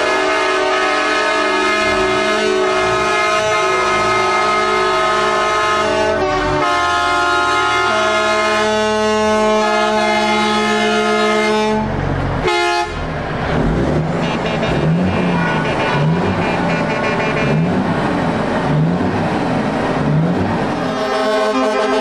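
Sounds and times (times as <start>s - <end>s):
truck air horns blaring: 0.0s - 13.2s, 14.0s - 18.0s, 20.7s - 22.0s
truck engine revving: 0.0s - 22.0s.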